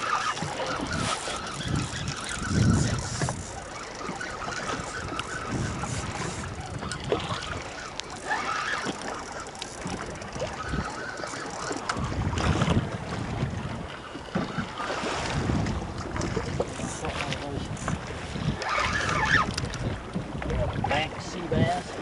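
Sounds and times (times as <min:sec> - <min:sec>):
water washing against boat hull: 0:00.0 - 0:22.0
wind buffeting microphone: 0:00.0 - 0:22.0.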